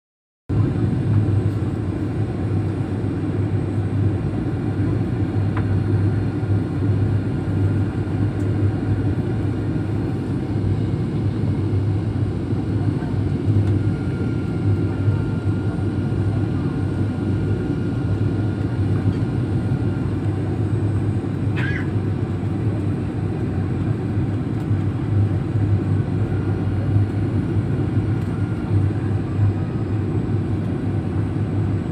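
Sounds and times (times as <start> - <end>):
airliner cabin engine drone: 0.5 - 31.9.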